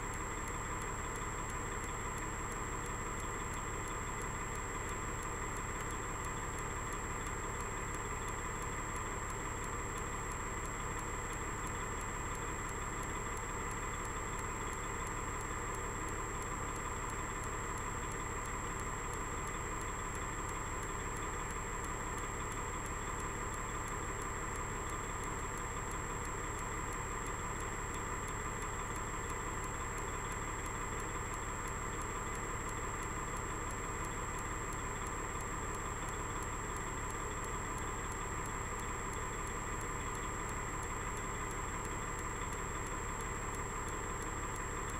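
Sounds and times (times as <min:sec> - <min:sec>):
diesel truck engine idling: 0:00.0 - 0:44.9.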